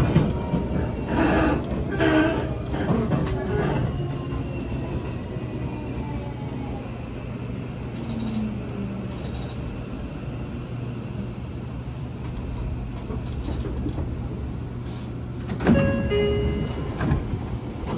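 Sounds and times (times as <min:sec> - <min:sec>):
train doors sliding open: 0:00.0 - 0:05.8, 0:07.7 - 0:10.2, 0:11.8 - 0:17.9
train equipment humming: 0:00.0 - 0:17.9.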